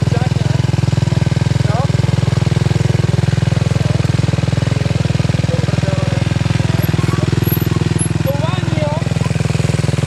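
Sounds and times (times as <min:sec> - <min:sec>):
atv engine idling: 0:00.0 - 0:10.0.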